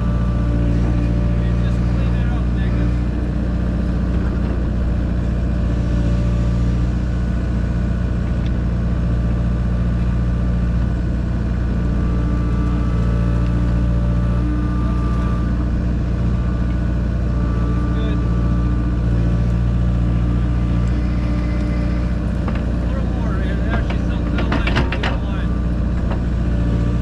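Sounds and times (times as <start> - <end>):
heavy engine running: 0.0 - 27.0.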